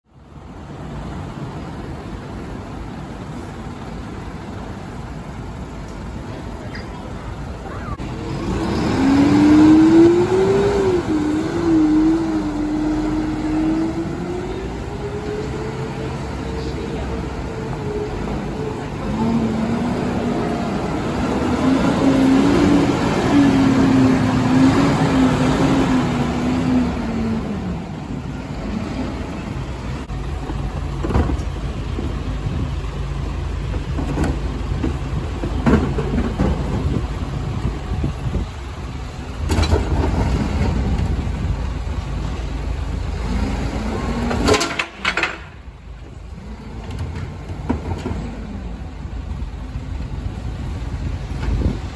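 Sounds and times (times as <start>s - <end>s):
diesel truck engine: 0.0s - 51.9s.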